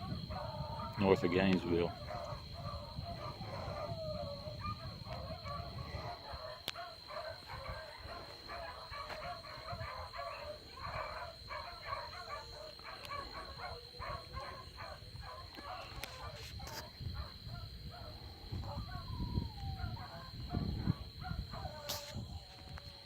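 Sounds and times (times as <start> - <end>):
beagles baying: 0.0 - 22.6.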